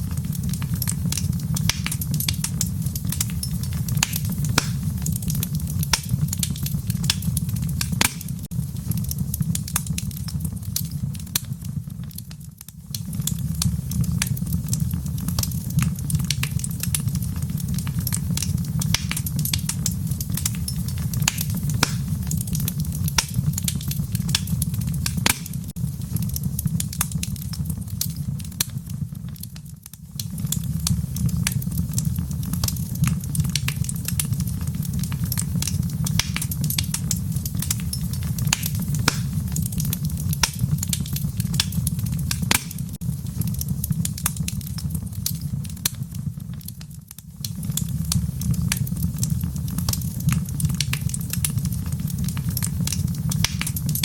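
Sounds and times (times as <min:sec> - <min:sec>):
low rumble of flames: 0:00.0 - 0:54.0
wood fire pops and snaps: 0:00.0 - 0:54.0.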